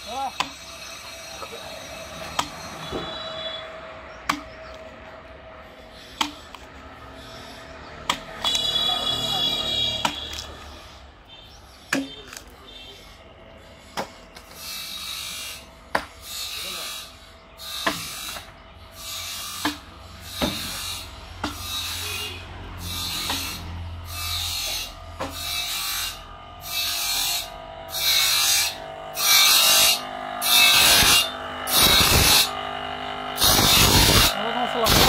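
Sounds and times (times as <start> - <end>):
grinding wheel sharpening saw blade: 0.0 - 11.1, 12.1 - 35.0.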